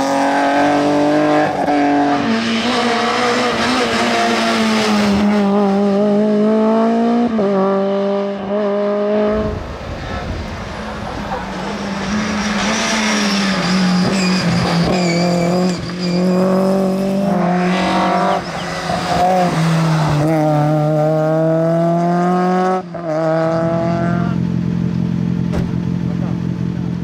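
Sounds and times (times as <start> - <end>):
rally car engine accelerating: 0.0 - 9.9, 10.9 - 27.0.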